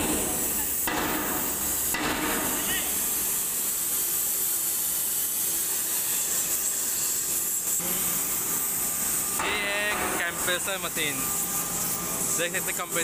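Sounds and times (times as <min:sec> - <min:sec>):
gas cutting torch hissing: 0:00.0 - 0:13.0.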